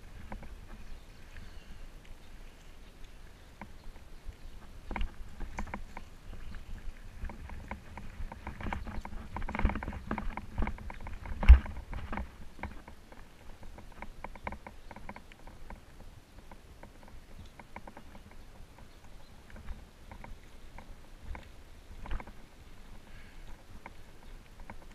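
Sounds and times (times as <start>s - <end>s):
bicycle rattling over gravel: 0.0s - 24.9s.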